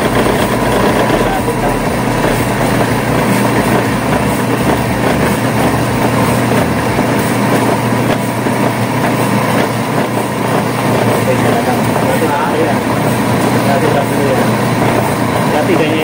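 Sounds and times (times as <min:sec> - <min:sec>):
pressure washer motor humming: 0:00.0 - 0:16.0.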